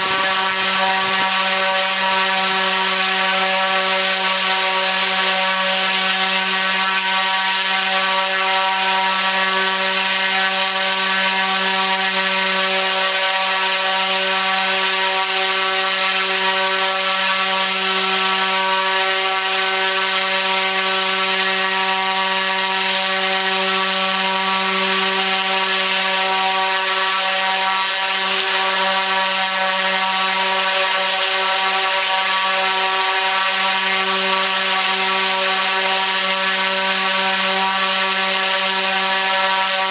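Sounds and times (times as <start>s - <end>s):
electric motor propeller drone: 0.0s - 39.9s.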